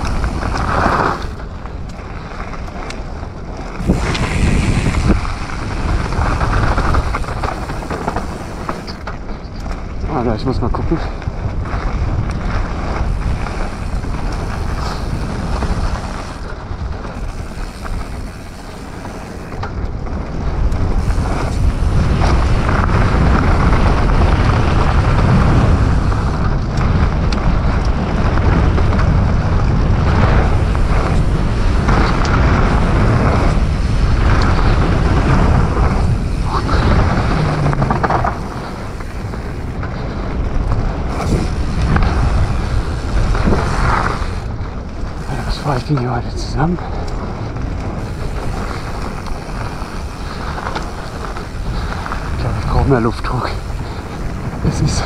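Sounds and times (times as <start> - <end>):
bike knocking and rattling: 0.0 - 55.0
tyres rumbling: 0.0 - 55.0
wind rushing over microphone: 0.0 - 55.0.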